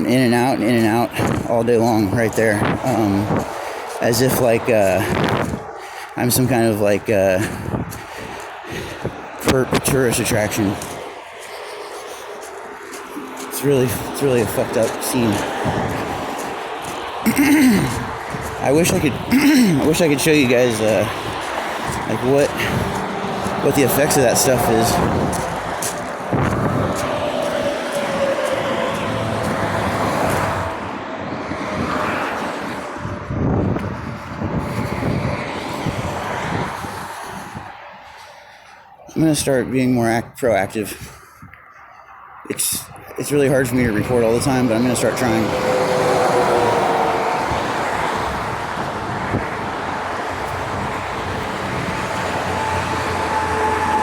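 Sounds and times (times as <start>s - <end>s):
motor vehicle running: 0.2s - 39.0s, 43.5s - 54.0s.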